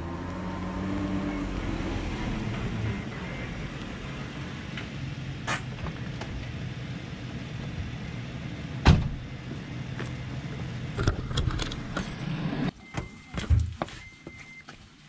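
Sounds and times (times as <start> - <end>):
car engine humming: 0.0 - 12.8.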